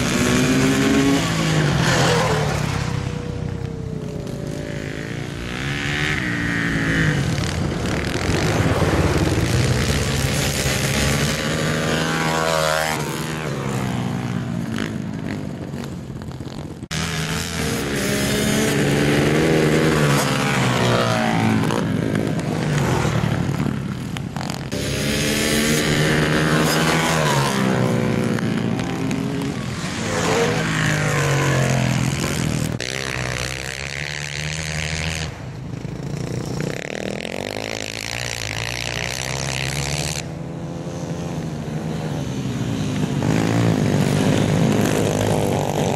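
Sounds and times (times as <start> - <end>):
pit bike engines revving: 0.0 - 45.9.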